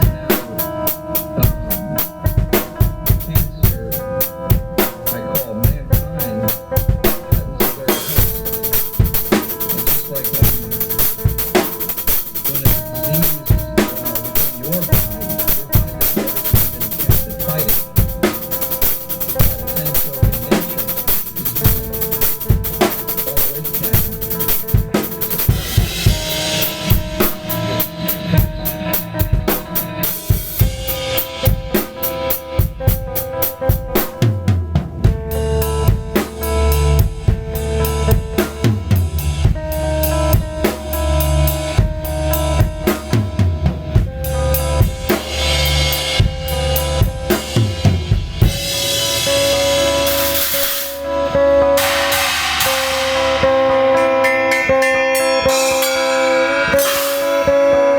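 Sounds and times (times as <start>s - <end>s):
cymbal wash: 0.0s - 34.2s, 44.0s - 57.9s
drum kit playing: 0.0s - 57.9s
held pitched notes: 0.0s - 57.9s.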